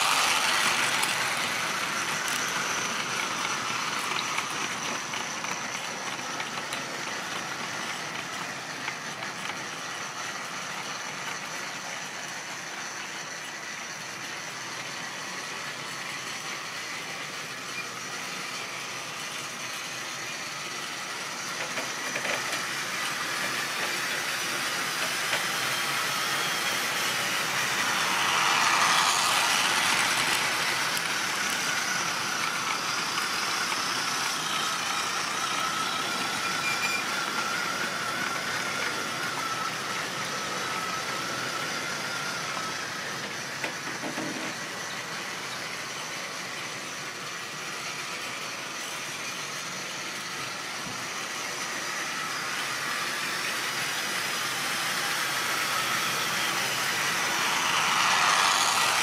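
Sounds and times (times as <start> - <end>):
model train wheels rattling on rails: 0.0 - 59.0
thin steady whine: 0.0 - 59.0.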